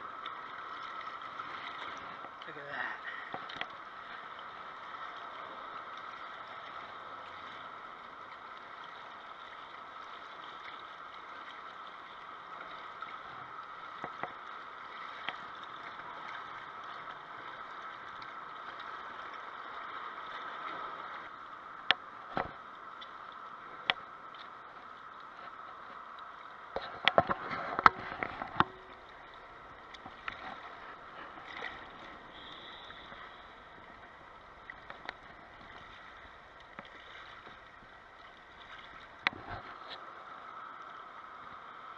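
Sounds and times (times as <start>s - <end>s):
river water lapping against rocks: 0.0s - 41.9s.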